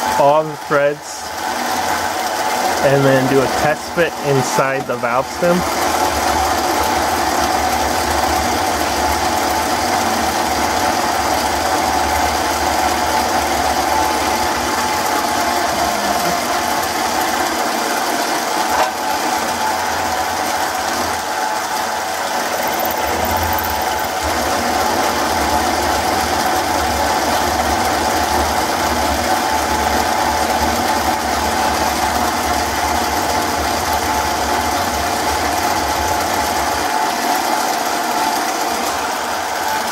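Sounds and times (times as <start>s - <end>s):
lathe running with machine whine: 0.0s - 39.9s.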